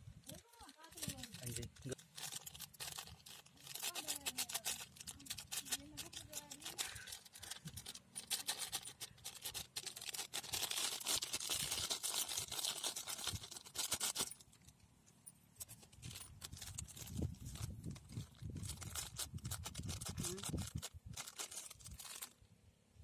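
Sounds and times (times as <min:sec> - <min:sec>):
foil packet crinkling: 0:00.2 - 0:14.8, 0:15.6 - 0:22.5.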